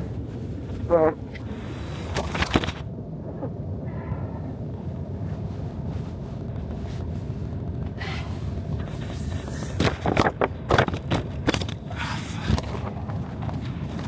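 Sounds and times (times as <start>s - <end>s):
blizzard wind rumbling: 0.0s - 14.0s.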